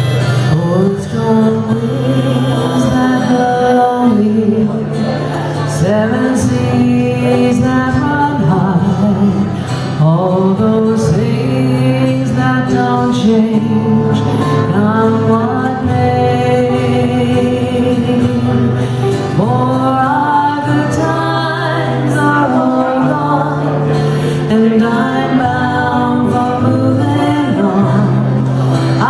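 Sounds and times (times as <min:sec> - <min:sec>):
acoustic guitar: 0:00.0 - 0:29.0
woman singing folk ballad: 0:00.0 - 0:29.0.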